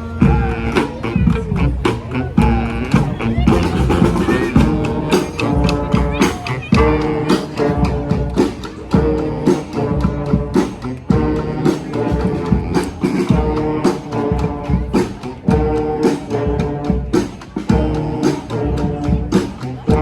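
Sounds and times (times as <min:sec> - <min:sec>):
brass band playing: 0:00.0 - 0:20.0
drums hitting: 0:00.0 - 0:20.0.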